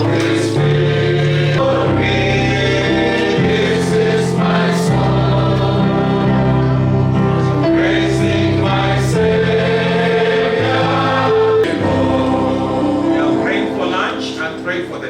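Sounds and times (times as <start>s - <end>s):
group singing a hymn: 0.0s - 15.0s.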